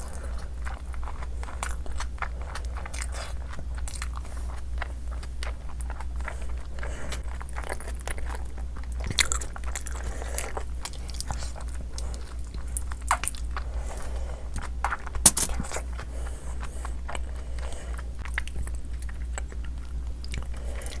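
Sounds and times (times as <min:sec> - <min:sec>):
chewing noodles with wet clicks: 0:00.0 - 0:21.0
steady low hum: 0:00.0 - 0:21.0.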